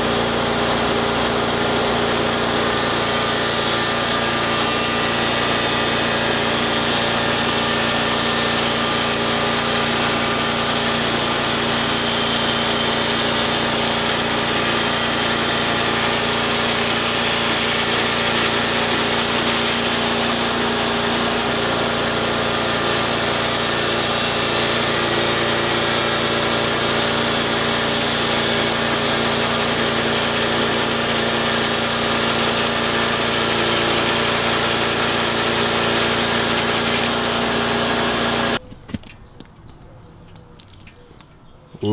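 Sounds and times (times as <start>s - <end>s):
bandsaw cutting log: 0.0s - 38.6s.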